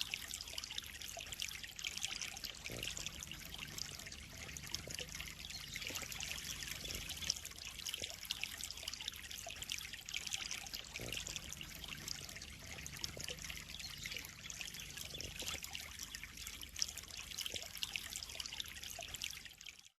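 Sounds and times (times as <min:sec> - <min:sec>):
water trickling into pond: 0:00.0 - 0:20.0.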